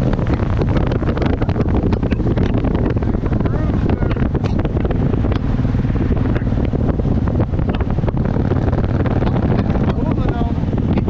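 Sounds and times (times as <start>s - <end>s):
motorcycle engine drone: 0.0s - 11.0s
wind buffeting microphone: 0.0s - 11.0s.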